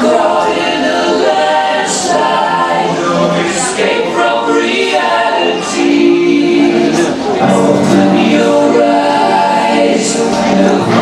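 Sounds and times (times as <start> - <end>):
group singing without instruments: 0.0 - 11.0.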